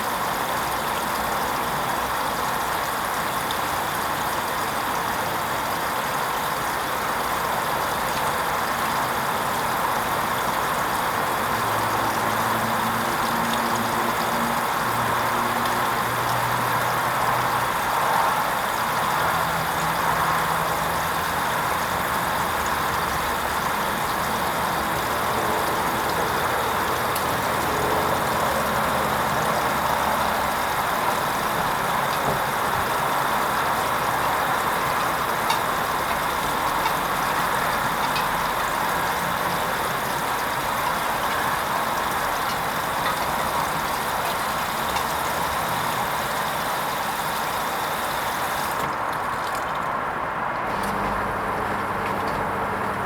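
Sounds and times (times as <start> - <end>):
washing machine whirring: 0.0 - 53.0.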